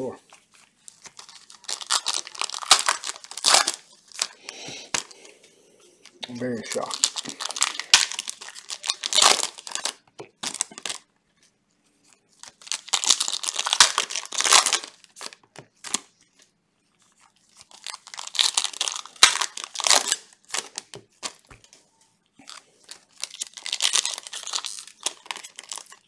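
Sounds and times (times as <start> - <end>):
foil wrappers tearing and crinkling: 0.6 - 5.2, 6.5 - 11.0, 12.4 - 16.1, 17.1 - 21.6, 22.4 - 26.0.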